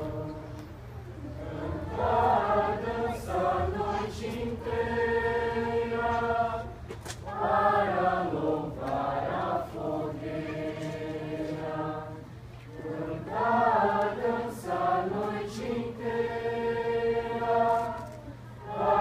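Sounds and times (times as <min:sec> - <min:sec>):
choir singing: 0:00.0 - 0:00.6, 0:01.4 - 0:19.0.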